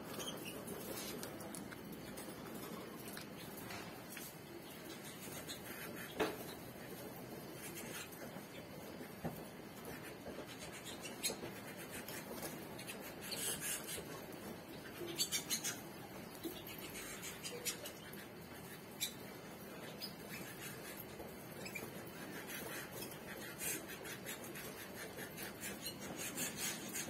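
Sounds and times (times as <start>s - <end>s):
birds scratching in cages: 0.0s - 27.0s.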